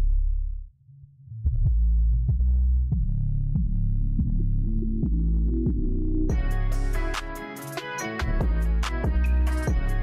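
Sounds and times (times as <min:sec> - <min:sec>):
electronic music with heavy bass: 0:01.7 - 0:10.0.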